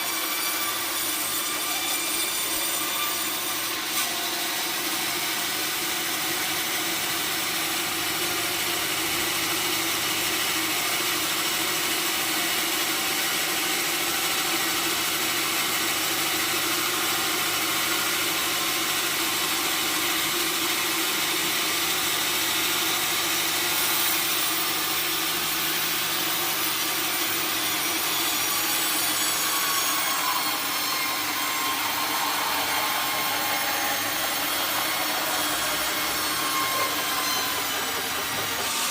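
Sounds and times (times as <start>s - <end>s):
saw cutting through log: 0.0s - 38.9s.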